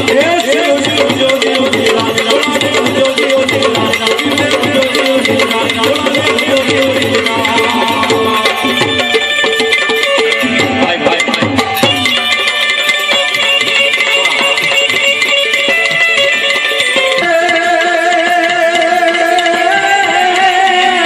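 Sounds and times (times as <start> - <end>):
man singing: 0.0 - 12.5, 13.3 - 21.0
harmonium: 0.0 - 21.0
tabla: 0.0 - 21.0.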